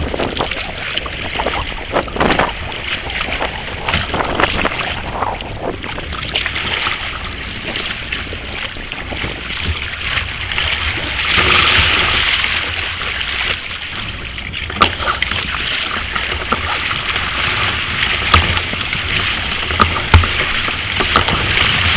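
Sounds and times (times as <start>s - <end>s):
water splashing around kayak: 0.0s - 21.9s
wind on microphone: 0.0s - 21.9s.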